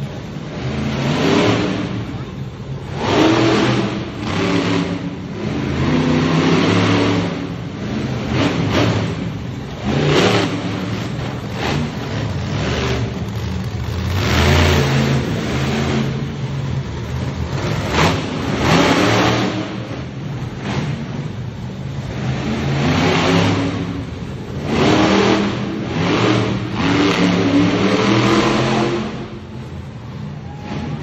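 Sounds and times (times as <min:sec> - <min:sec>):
truck engine revving hard: 0:00.0 - 0:29.8.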